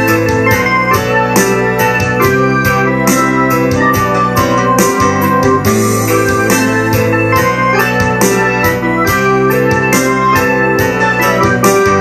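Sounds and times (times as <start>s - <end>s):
sharp percussive beat: 0.0s - 12.0s
synthesizer keyboard chords and melody: 0.0s - 12.0s.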